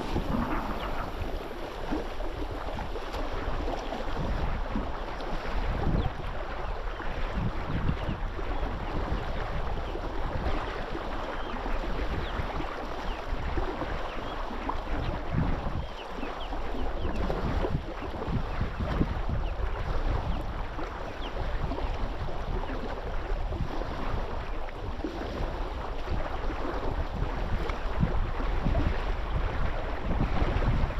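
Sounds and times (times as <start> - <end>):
water splashing and lapping: 0.0 - 30.9
wind buffeting microphone: 0.0 - 30.9.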